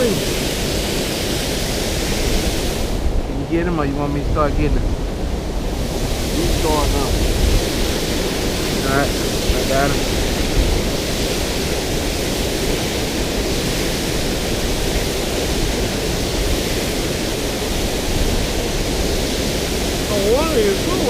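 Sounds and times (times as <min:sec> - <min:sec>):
water rushing through spillway: 0:00.0 - 0:21.0.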